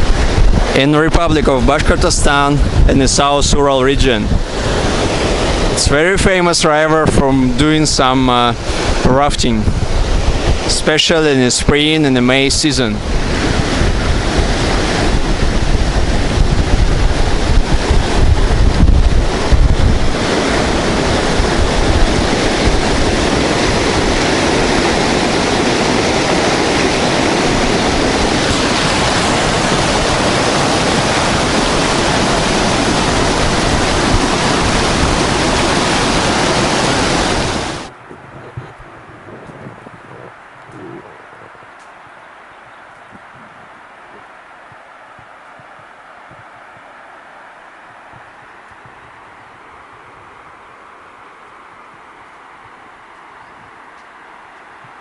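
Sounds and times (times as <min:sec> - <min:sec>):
river water rushing: 0:00.0 - 0:55.0
wind buffeting microphone: 0:00.0 - 0:55.0.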